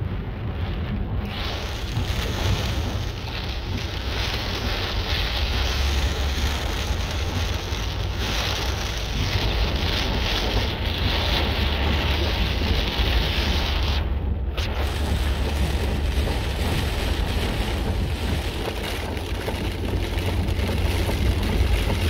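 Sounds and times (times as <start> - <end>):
car rumble and wind: 0.0 - 22.0
heavy rain on car: 0.0 - 22.0.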